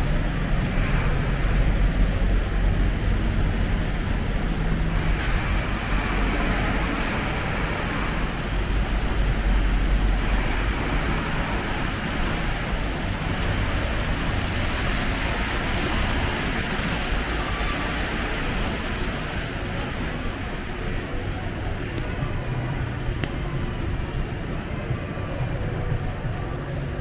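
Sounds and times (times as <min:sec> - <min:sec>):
city traffic rumble: 0:00.0 - 0:27.0.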